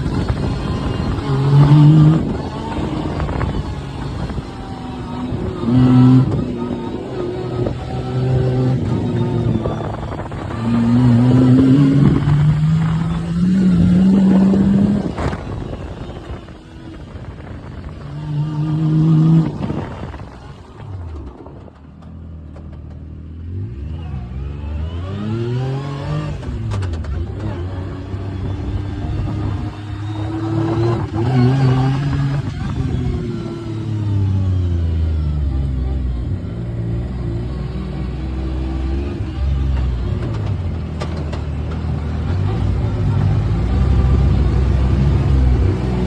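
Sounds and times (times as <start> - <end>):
vehicle engine accelerating: 0.0 - 46.0.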